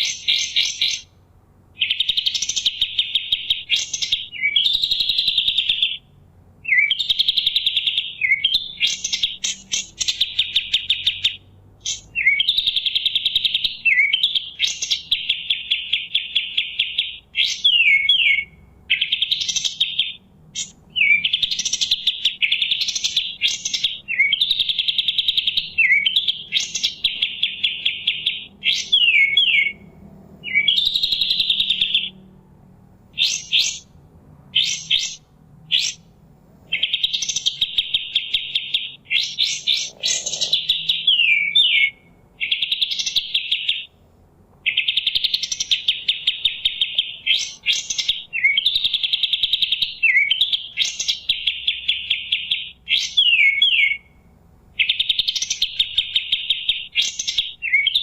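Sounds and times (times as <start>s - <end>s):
sharp bird chips: 0.0s - 1.1s, 1.8s - 32.2s, 33.2s - 36.1s, 36.7s - 43.9s, 44.6s - 54.1s, 54.8s - 58.0s
bird singing buzzy trills: 0.0s - 58.0s.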